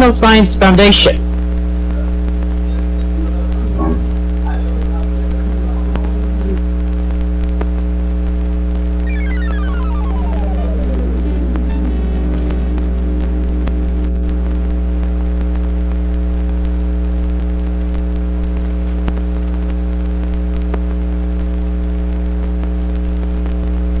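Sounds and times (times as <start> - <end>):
electrical hum: 0.0 - 23.2.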